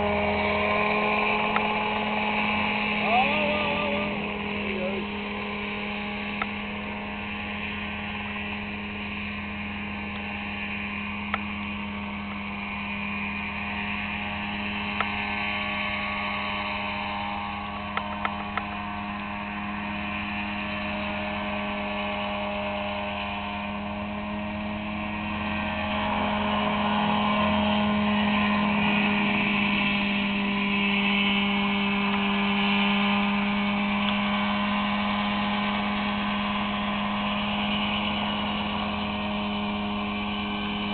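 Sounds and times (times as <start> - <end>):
helicopter hovering: 0.0 - 40.9.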